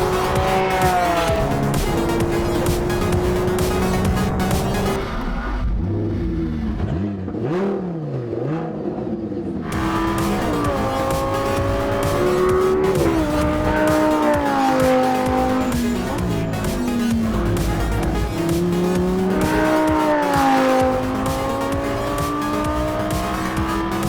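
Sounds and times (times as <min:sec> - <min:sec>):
music: 0:00.0 - 0:05.2, 0:09.7 - 0:24.0
sports car engine: 0:00.0 - 0:24.0.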